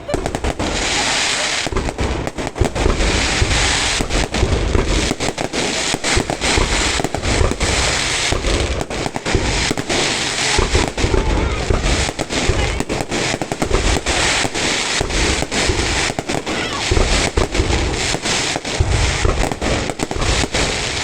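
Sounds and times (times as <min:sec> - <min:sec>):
deep firework booms: 0:00.0 - 0:21.0
fireworks bangs and crackling: 0:00.0 - 0:21.0.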